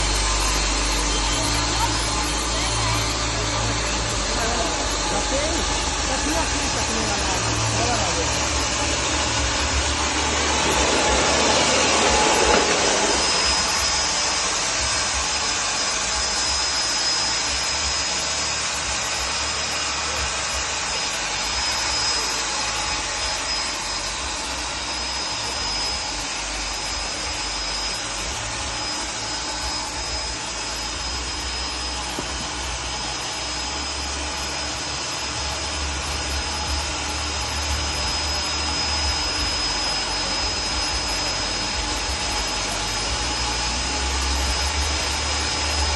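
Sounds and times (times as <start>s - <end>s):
high machine whine: 0.0s - 45.9s
sawmill machine running: 0.0s - 45.9s.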